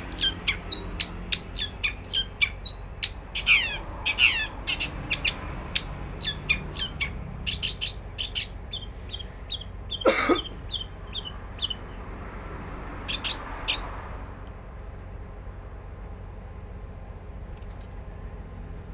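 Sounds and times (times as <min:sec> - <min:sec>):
songbird chirping: 0:00.0 - 0:15.3.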